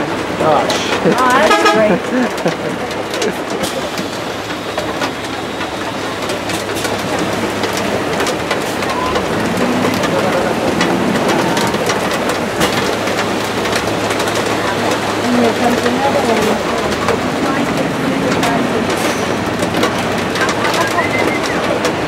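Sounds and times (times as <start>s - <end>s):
bus engine humming: 0.0s - 22.0s
rain on bus roof: 0.0s - 22.0s.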